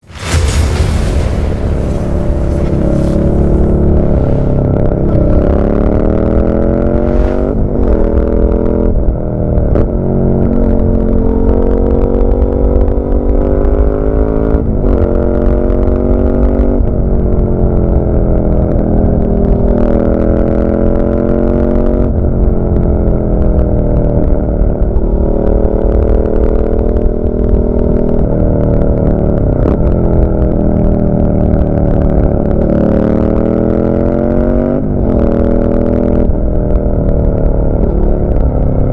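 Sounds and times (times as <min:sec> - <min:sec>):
motorcycle engine accelerating: 0:01.8 - 0:38.9.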